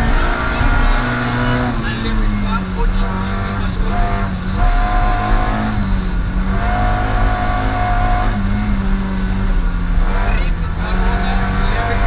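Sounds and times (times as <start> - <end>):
rally car engine pulling hard: 0.0 - 12.0.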